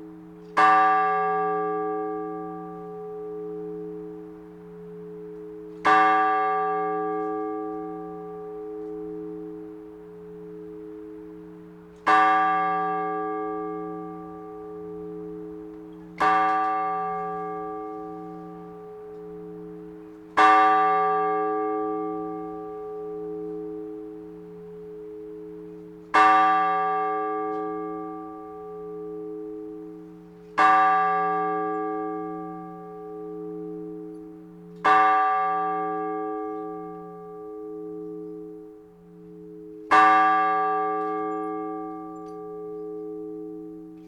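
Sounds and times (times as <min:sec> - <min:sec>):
large church bell tolling: 0:00.0 - 0:44.0.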